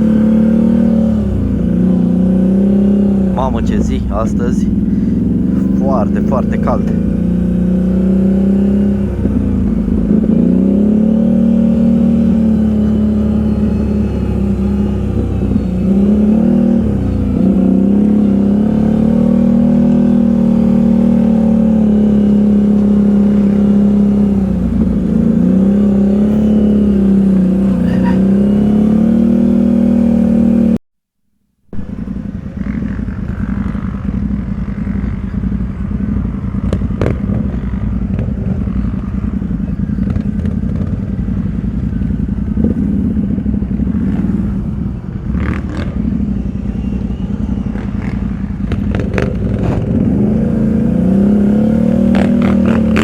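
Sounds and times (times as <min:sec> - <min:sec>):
atv engine running: 0:00.0 - 0:30.8, 0:31.7 - 0:53.0
lower rougher engine sound: 0:00.0 - 0:30.8, 0:31.6 - 0:53.0.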